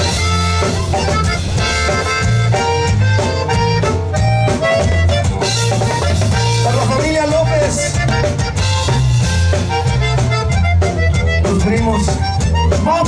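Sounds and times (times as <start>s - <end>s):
accordion melody: 0.0s - 13.0s
bass line: 0.0s - 13.0s
drums: 0.0s - 13.0s.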